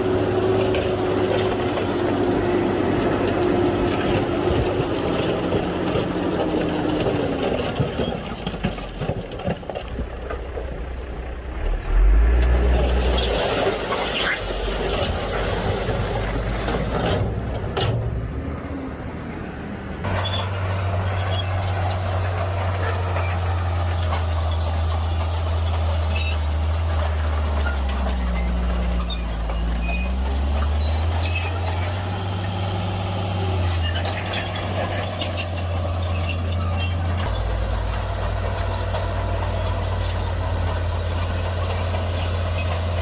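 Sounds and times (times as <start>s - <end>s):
heavy diesel engine droning: 0.0s - 43.0s.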